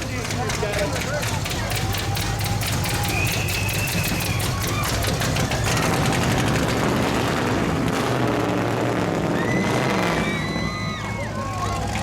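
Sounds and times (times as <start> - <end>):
big truck engine running: 0.0 - 12.0.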